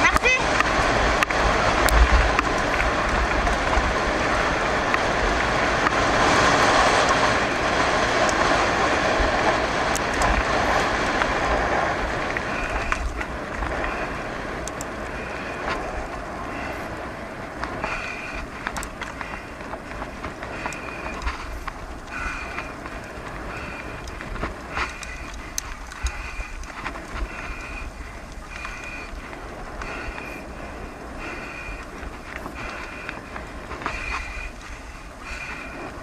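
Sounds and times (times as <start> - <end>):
bike tyres on rough track: 0.0 - 36.0
wind rumble on microphone: 0.0 - 36.0.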